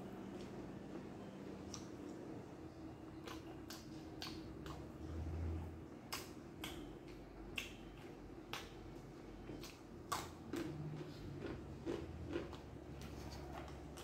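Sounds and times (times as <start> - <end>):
person chewing with wet clicks: 1.6 - 2.2, 2.9 - 14.0.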